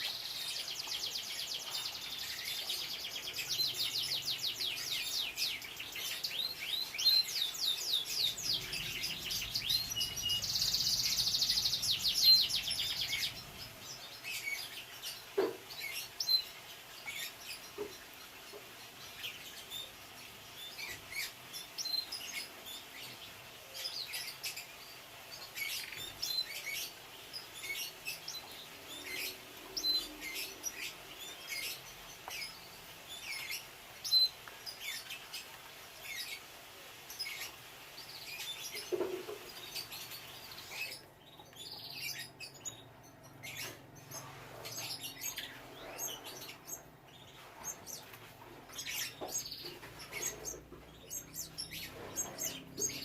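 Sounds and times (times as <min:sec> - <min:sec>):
canaries chirping: 0:00.0 - 0:53.0.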